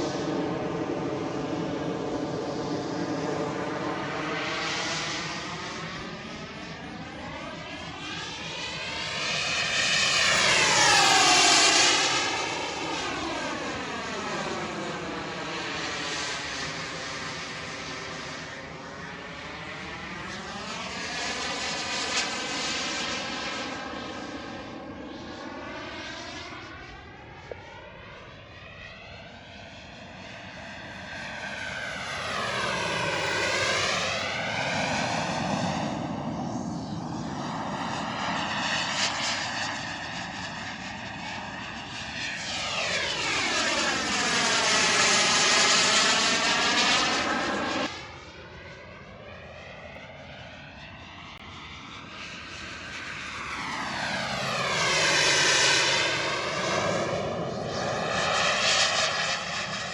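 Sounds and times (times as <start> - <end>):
model jet engine flying past: 0.0 - 59.9.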